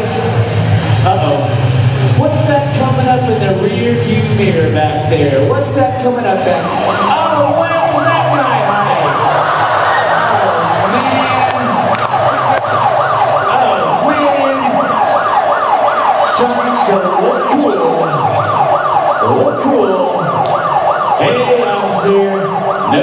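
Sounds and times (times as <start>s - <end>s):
police siren yelping: 0.0s - 23.0s.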